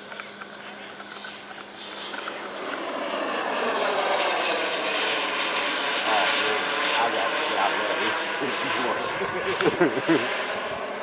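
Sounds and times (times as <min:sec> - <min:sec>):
model jet turbine engine: 0:00.0 - 0:11.0.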